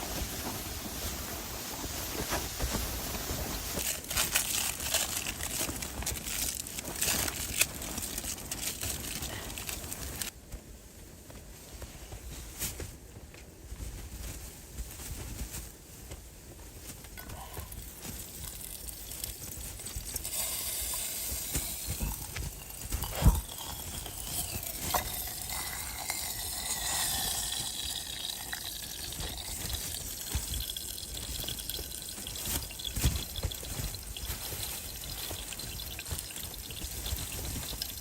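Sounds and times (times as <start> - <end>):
water pouring into a container: 0.1 - 10.3, 17.2 - 38.0.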